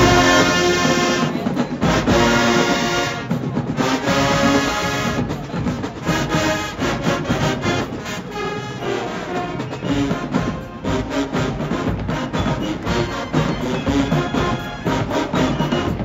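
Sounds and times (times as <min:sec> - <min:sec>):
drum strokes: 0:00.0 - 0:16.0
marching band brass: 0:00.0 - 0:16.0.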